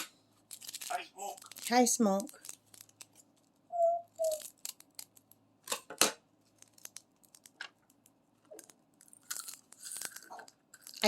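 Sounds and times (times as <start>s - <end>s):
rustling or snipping noises: 0.5s - 3.6s, 4.2s - 5.8s, 6.4s - 11.0s.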